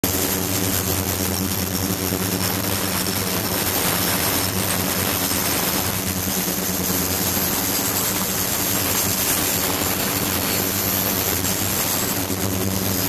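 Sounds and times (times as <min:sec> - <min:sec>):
ultrasonic bath buzzing hum: 0:00.0 - 0:13.0.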